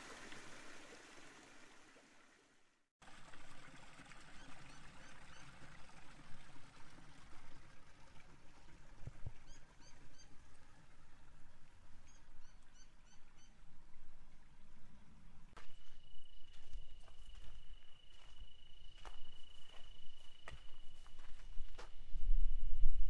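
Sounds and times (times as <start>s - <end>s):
stream trickling over gravel: 0.0s - 2.4s, 3.0s - 21.9s.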